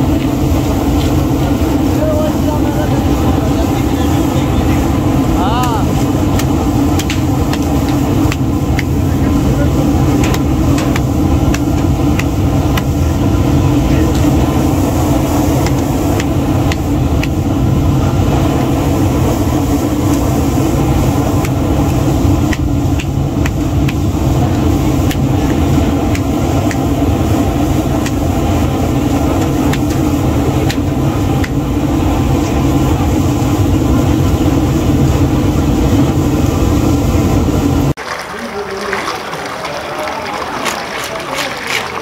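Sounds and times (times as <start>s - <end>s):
steady mechanical drone: 0.0s - 38.0s.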